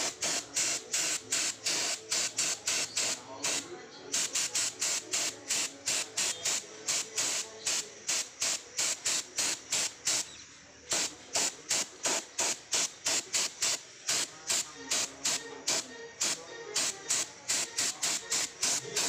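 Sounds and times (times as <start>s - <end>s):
paint spray gun hissing bursts: 0.0s - 19.0s.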